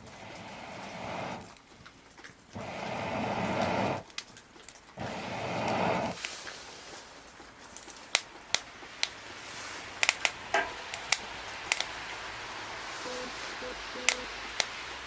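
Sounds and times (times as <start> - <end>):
fire pops and snaps: 0.0 - 13.0, 14.1 - 15.0
burning log crackling: 0.0 - 15.0
faint steady hiss: 0.0 - 15.0.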